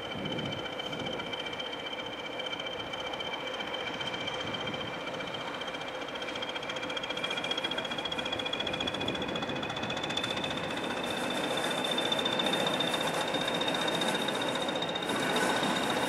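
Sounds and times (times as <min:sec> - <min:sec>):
diesel locomotive engine whine: 0:00.0 - 0:16.0.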